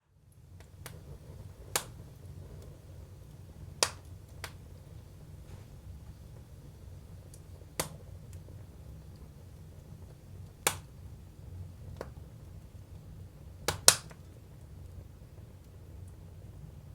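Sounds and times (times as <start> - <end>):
low rumble of fire: 0.0 - 16.9
wood fire crackling and popping: 0.2 - 16.9.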